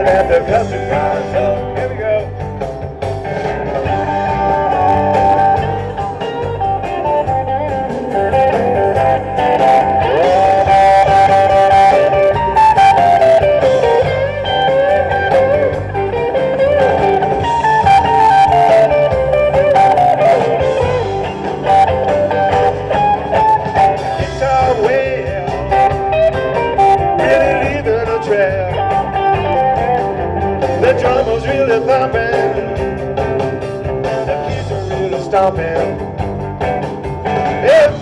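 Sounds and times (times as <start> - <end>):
bass and drum beat: 0.0 - 38.0
lead guitar solo: 0.0 - 38.0.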